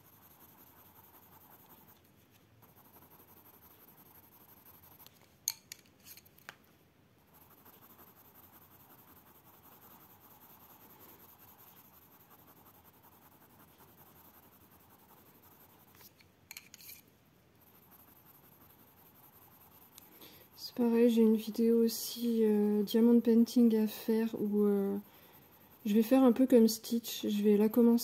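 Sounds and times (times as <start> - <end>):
pencil scratching on paper: 0.0 - 5.2, 7.2 - 17.0, 17.6 - 28.0.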